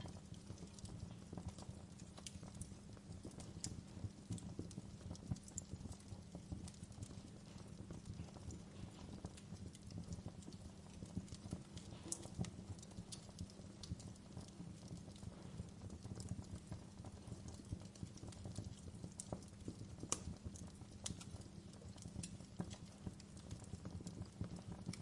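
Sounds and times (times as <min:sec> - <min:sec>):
sharp snaps and pops: 0:00.0 - 0:25.0
wood fire crackling: 0:00.0 - 0:25.0.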